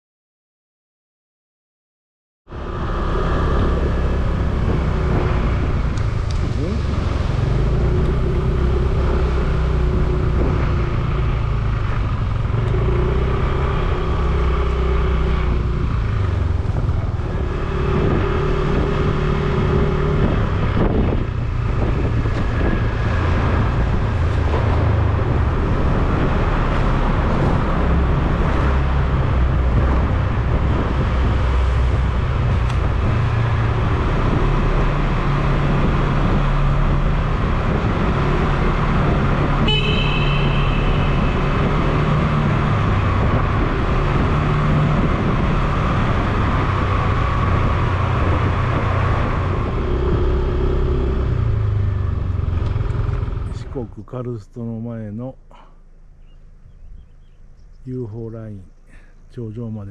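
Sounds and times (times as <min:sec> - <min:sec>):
motorcycle engine running: 0:02.5 - 0:53.8
road and wind noise: 0:02.5 - 0:59.9.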